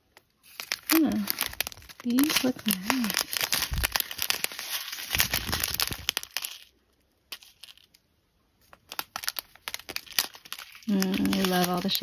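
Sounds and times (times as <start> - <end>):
plastic bags crinkling: 0.0 - 8.0, 8.6 - 12.0
small beads clicking together: 0.2 - 6.7, 8.8 - 12.0.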